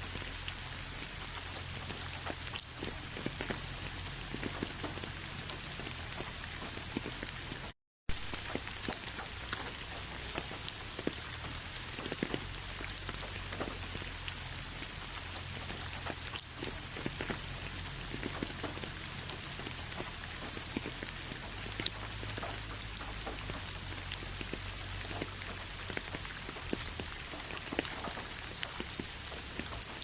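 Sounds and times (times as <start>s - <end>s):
rain falling: 0.0s - 30.0s
raindrops ticking: 0.0s - 30.0s.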